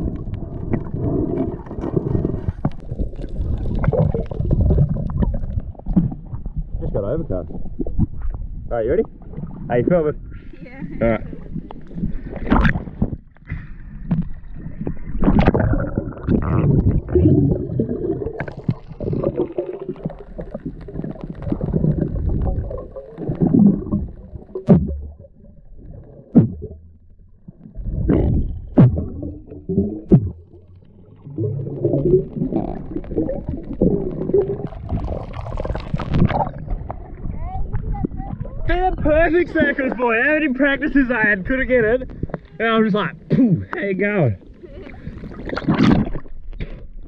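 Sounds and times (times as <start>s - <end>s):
underwater rumbling and gurgling: 0.0s - 47.0s.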